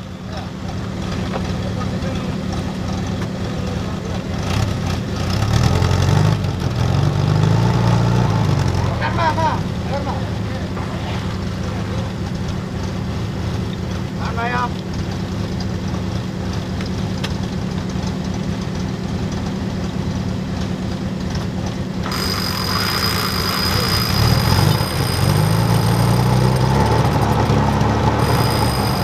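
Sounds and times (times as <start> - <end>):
off-road vehicle engine revving: 0.0 - 16.1, 20.6 - 29.0.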